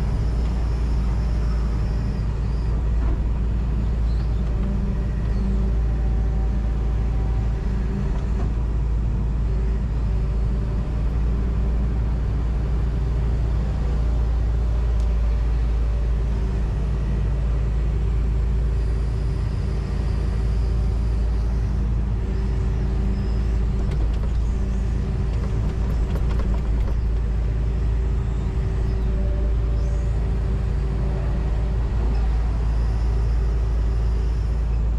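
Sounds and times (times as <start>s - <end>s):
excavator diesel engine drone: 0.0s - 34.9s.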